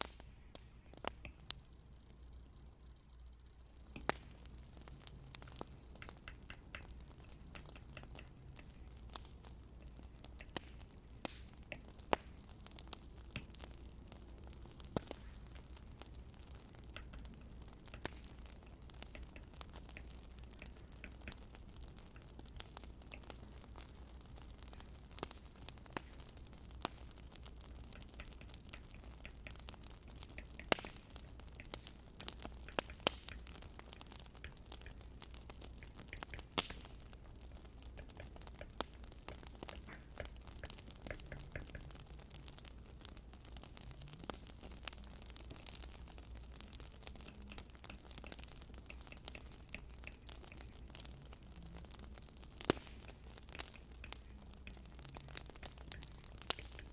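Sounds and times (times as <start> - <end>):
faint low hum: 0.0 - 56.9
wood fire crackling: 0.0 - 56.9.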